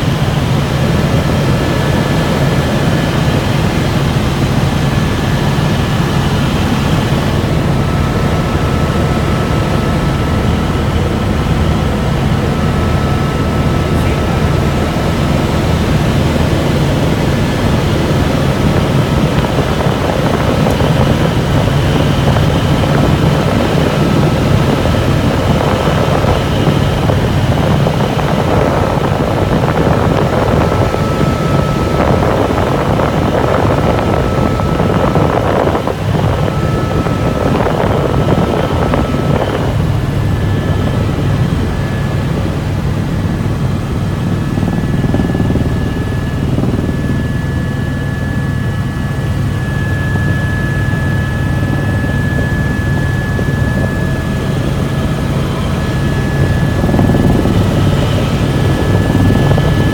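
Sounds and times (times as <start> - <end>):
helicopter engine and rotor drone: 0.0 - 59.9
thin steady whine: 0.0 - 59.9.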